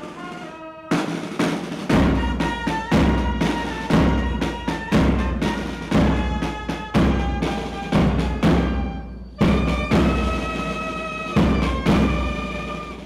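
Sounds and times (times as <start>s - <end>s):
brass band playing: 0.0s - 13.0s
side drum strokes: 0.0s - 13.0s.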